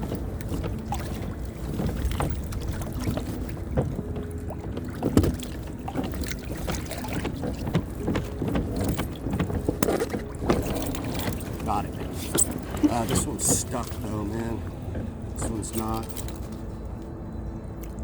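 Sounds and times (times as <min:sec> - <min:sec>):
creaks and knocks: 0:00.0 - 0:18.0
water sloshing at kayak hull: 0:00.0 - 0:18.0.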